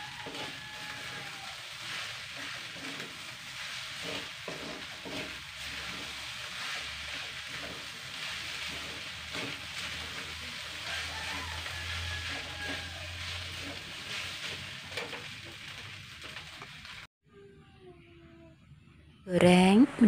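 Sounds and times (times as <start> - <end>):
rice sizzling in a wok: 0.0 - 17.1
spatula scraping a pan: 0.0 - 17.1.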